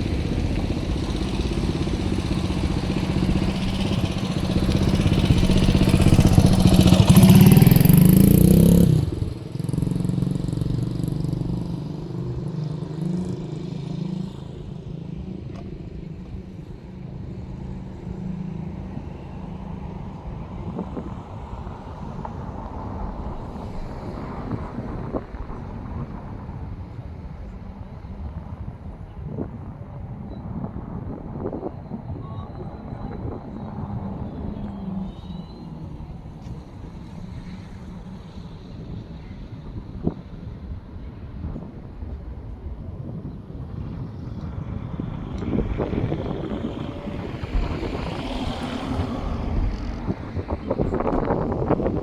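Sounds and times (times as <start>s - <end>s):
engine humming: 0.0s - 52.0s
wind buffeting microphone: 0.0s - 52.0s.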